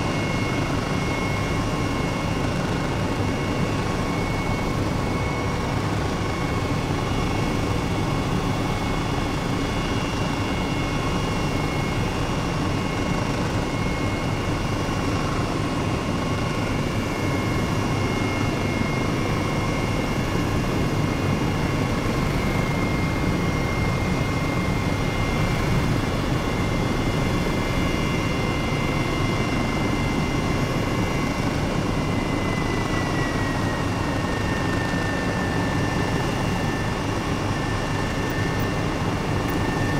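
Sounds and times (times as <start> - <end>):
helicopter turbine and rotor drone: 0.0 - 39.9.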